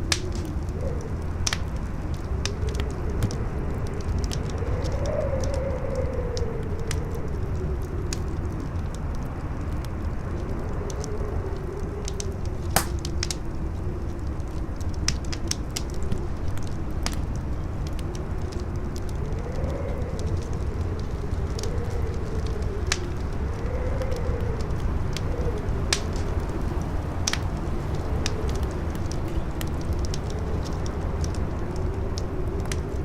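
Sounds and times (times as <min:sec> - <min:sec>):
campfire crackling and popping: 0:00.0 - 0:33.0
wind howling: 0:00.0 - 0:33.0.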